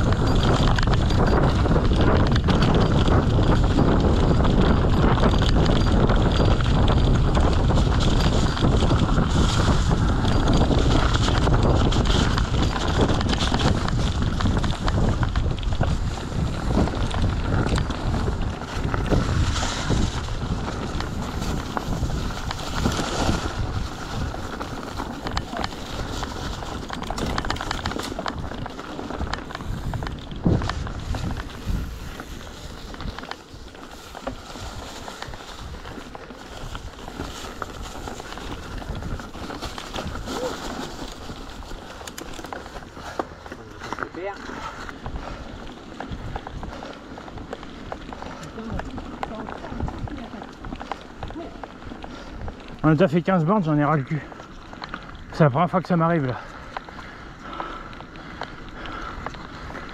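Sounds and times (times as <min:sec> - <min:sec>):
bicycle tyre noise: 0:00.0 - 0:59.9
bike clicks and rattles: 0:00.0 - 0:59.9
wind buffeting microphone: 0:00.0 - 0:59.9.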